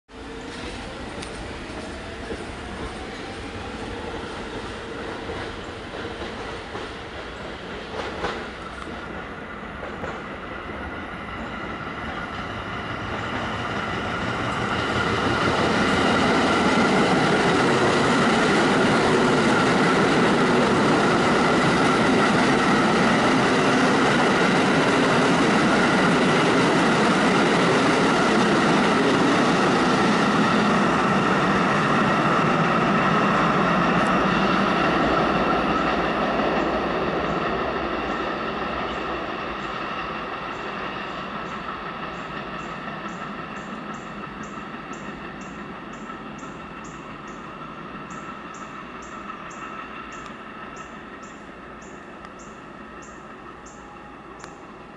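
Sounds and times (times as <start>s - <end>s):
subway train wheels rumbling on rails: 0.1s - 54.9s.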